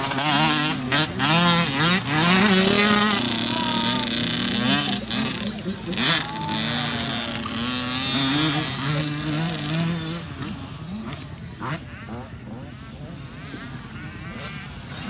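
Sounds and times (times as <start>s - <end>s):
dirt bike engine revving: 0.0s - 15.0s
distant dirt bikes: 0.0s - 15.0s.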